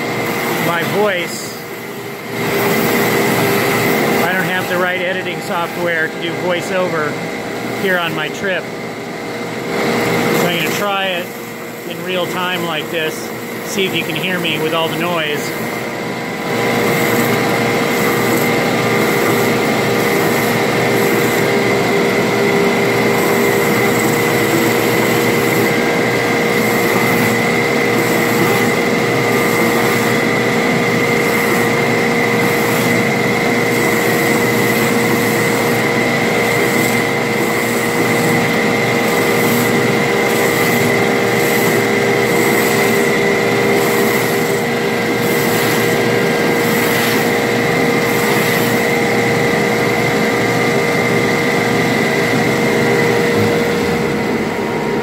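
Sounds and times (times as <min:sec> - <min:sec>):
belt sander running: 0:00.0 - 0:55.0.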